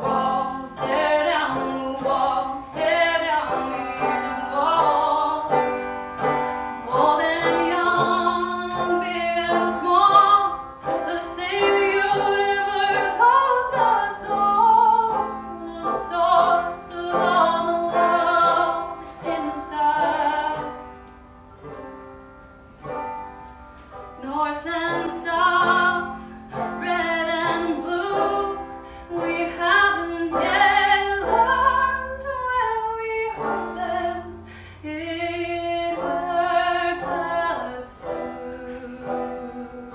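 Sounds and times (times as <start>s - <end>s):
woman singing folk song: 0.0s - 21.8s, 24.0s - 39.9s
banjo picking: 0.0s - 39.9s.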